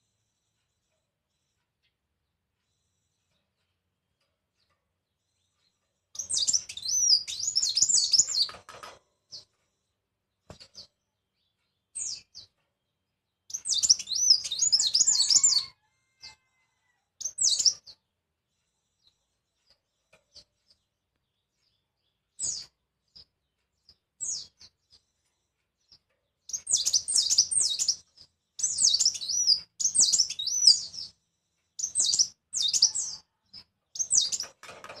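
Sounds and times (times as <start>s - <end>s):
bird chirps: 0.0s - 16.6s, 17.2s - 35.0s.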